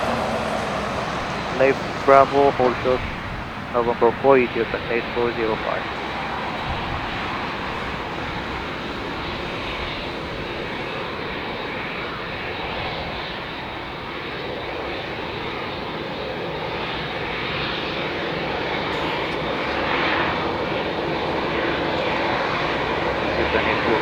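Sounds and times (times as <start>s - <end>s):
jet engines at low power: 0.0s - 24.0s.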